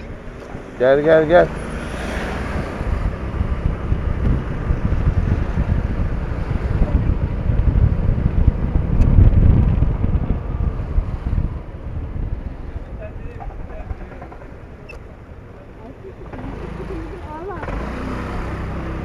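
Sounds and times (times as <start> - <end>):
motorcycle engine: 0.0 - 19.0
wind buffeting microphone: 0.0 - 19.0.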